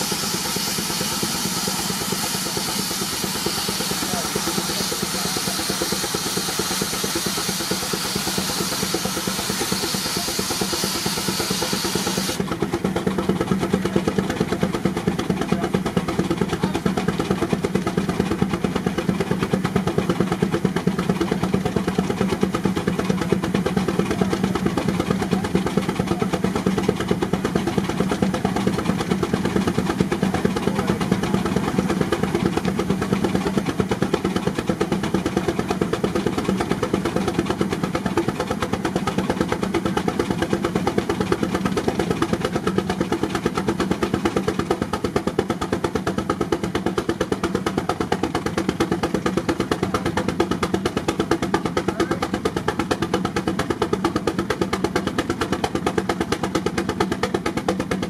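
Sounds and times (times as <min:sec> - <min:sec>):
steam engine exhaust beat: 0:00.0 - 0:58.0.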